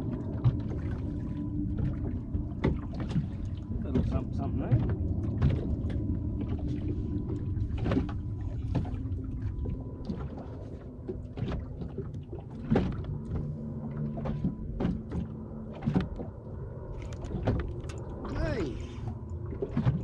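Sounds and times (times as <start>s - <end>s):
faint steady hum: 0.0s - 20.0s
water lapping boat: 0.0s - 20.0s
wind: 0.0s - 20.0s.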